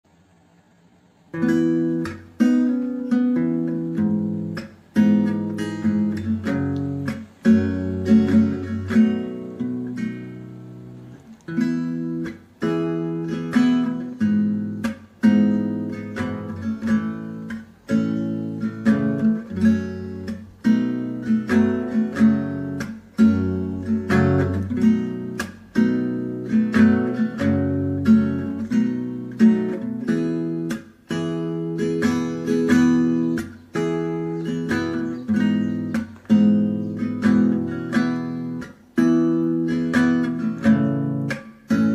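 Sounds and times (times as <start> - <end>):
acoustic guitar strumming chords: 1.2 - 41.9.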